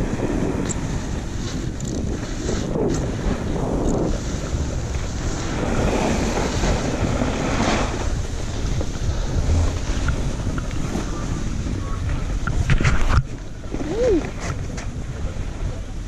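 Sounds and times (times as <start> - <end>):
snowboard scraping on snow: 0.0 - 15.7
wind buffeting microphone: 0.0 - 16.0.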